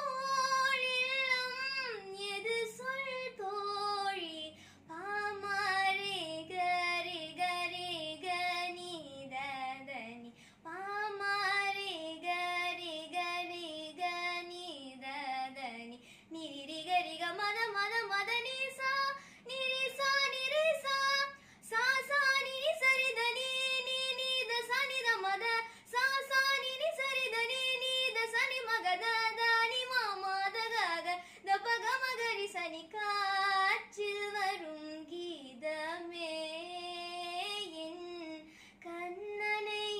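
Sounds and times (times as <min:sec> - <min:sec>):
girl singing: 0:00.0 - 0:39.9.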